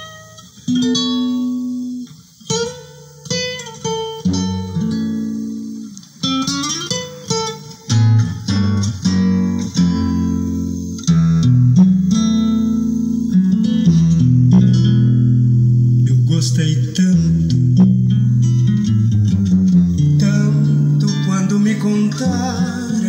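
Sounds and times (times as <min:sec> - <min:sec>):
acoustic guitar music over loudspeakers: 0:00.0 - 0:23.0.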